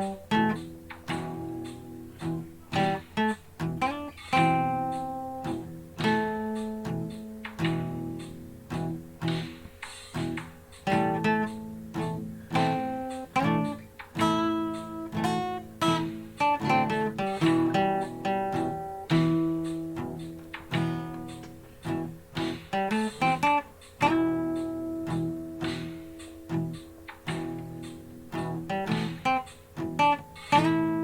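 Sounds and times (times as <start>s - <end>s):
acoustic guitar blues-rock playing: 0.0s - 31.0s.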